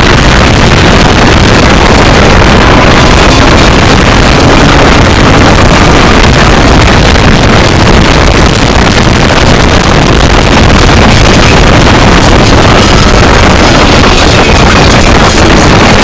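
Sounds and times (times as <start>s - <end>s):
car interior road and engine noise: 0.0s - 16.0s.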